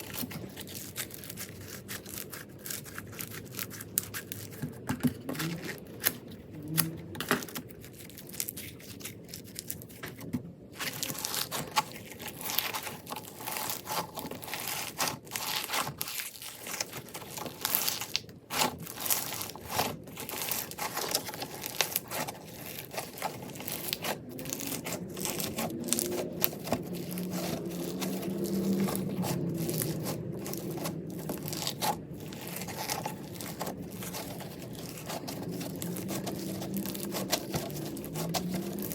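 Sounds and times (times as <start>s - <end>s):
crunchy slime crackling: 0.0s - 38.9s.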